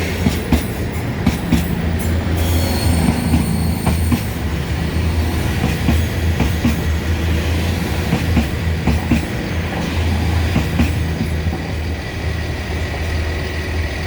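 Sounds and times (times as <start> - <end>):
train rolling with low hum: 0.0 - 14.0
wheels clicking over rail joints: 0.0 - 14.0.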